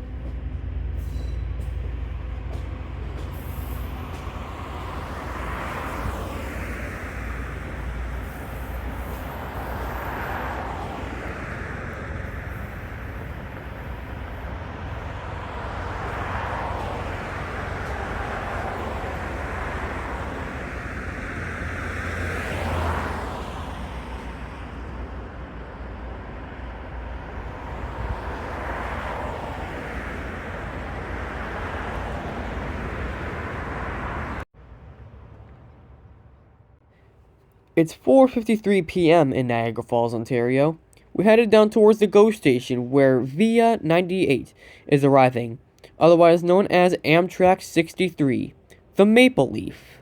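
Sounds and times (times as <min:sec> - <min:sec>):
vehicles going by: 0:00.0 - 0:50.0.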